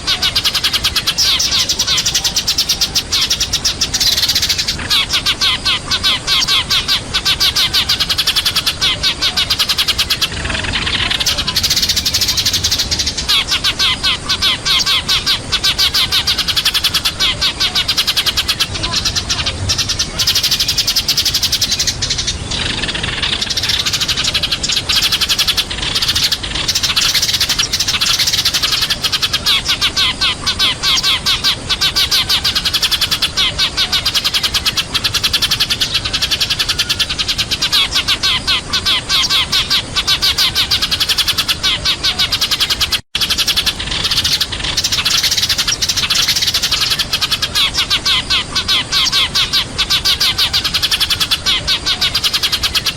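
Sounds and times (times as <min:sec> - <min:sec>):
flock of sparrows chirping: 0:00.0 - 0:52.9.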